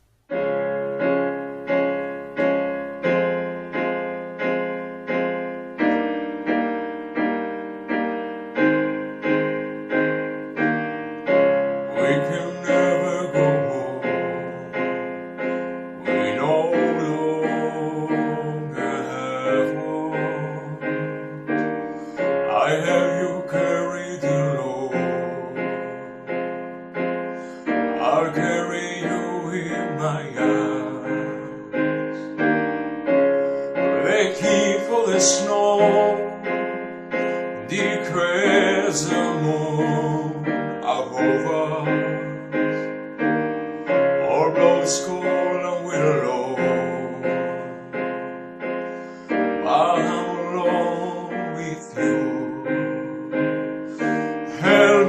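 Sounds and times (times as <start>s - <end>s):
piano chords: 0.0s - 55.0s
wordless sliding melody line: 0.0s - 55.0s.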